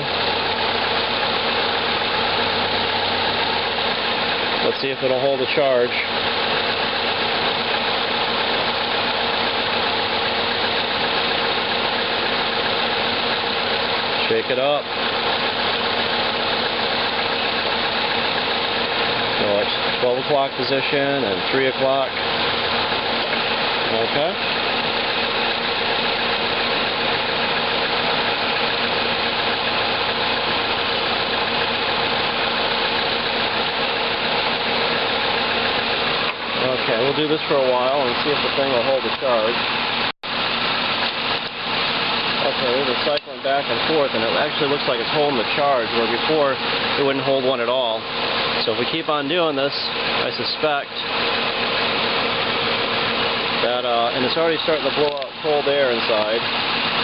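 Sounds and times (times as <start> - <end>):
air conditioning running: 0.0 - 57.0
car engine idling: 0.0 - 57.0.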